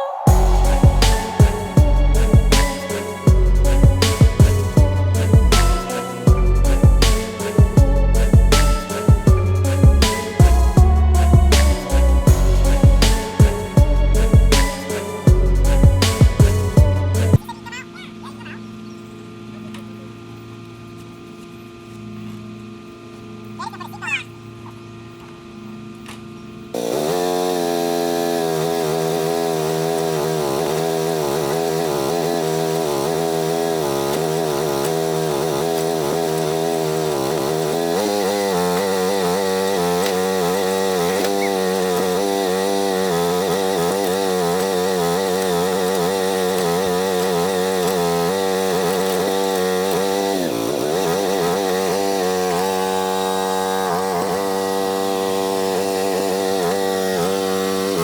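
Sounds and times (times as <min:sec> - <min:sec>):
chainsaw cutting: 0:00.0 - 0:58.0.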